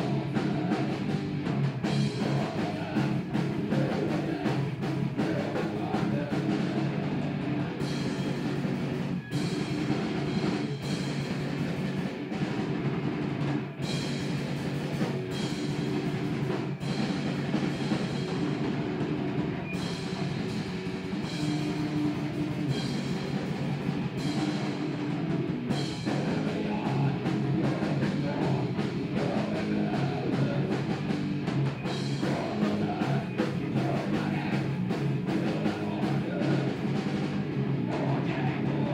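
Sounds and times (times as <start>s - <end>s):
drum and cymbal hits: 0.0s - 38.9s
heavy rock band playing: 0.0s - 38.9s.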